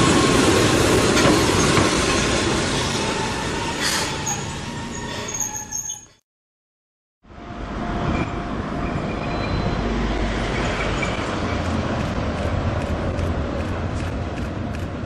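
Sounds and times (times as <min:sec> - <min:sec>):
tram rumbling over steel bridge: 0:00.0 - 0:05.7, 0:07.3 - 0:15.0.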